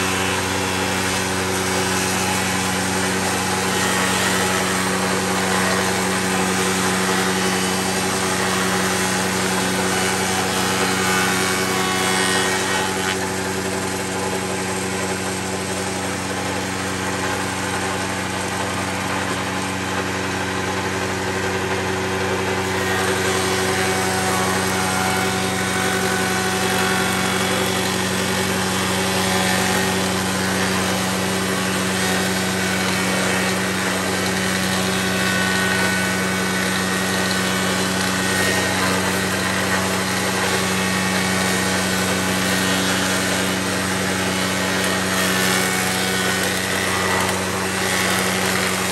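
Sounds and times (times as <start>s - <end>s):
constant motor hum: 0.0s - 48.9s
wood shaper cutting board edge: 0.0s - 48.9s.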